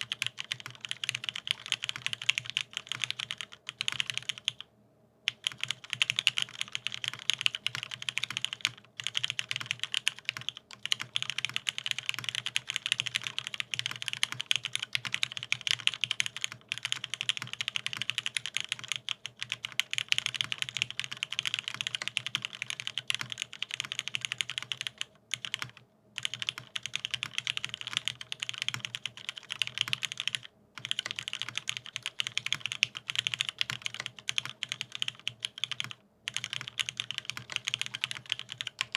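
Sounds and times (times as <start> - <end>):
mechanical keyboard typing: 0.0 - 4.6, 5.3 - 38.9.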